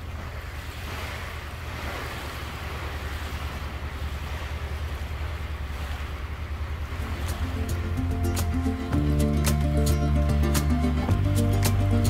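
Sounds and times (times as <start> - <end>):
boat engine throbbing: 0.0 - 12.0
water rushing past hull: 0.0 - 12.0.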